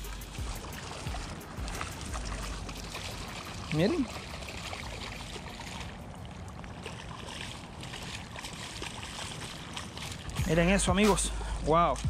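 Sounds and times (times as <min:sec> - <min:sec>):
light splashing in shallows: 0:00.0 - 0:11.5
water lapping at shoreline: 0:00.0 - 0:12.0.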